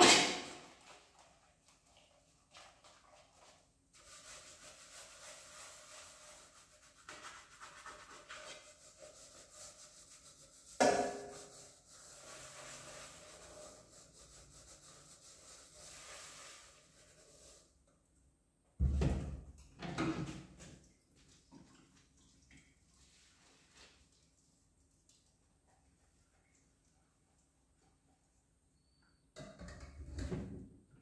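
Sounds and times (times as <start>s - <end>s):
scrubbing a metal pot: 0.0s - 17.9s, 20.2s - 28.6s.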